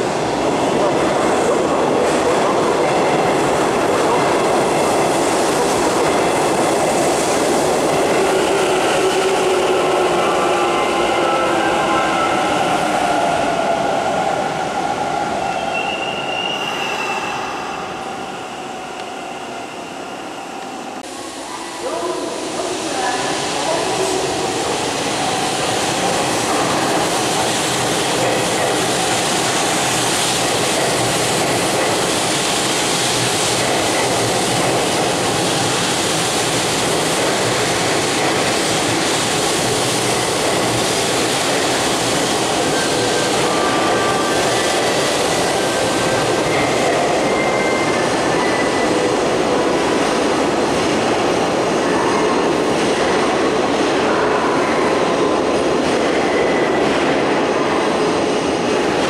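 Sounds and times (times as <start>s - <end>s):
train wheels rumbling on rail: 0.0s - 19.8s, 21.9s - 59.0s.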